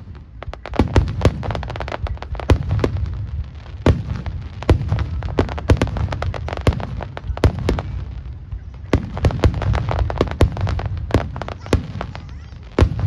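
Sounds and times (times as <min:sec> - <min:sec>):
firework bangs: 0:00.0 - 0:13.0
low rumble of explosions: 0:00.0 - 0:13.0.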